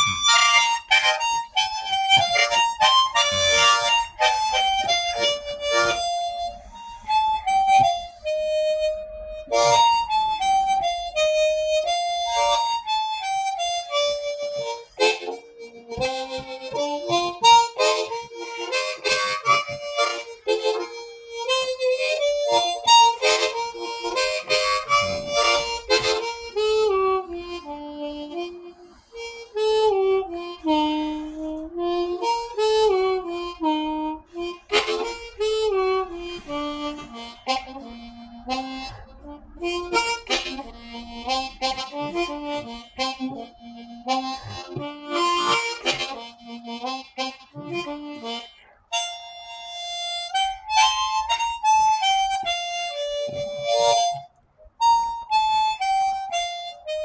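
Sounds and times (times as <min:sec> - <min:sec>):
harmonica playing a fiddle tune: 0:00.0 - 0:57.0.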